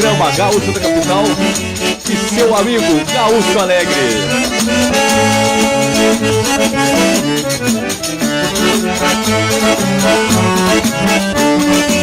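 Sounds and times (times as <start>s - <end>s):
accordion folk music: 0.0s - 12.0s
bass line: 0.0s - 12.0s.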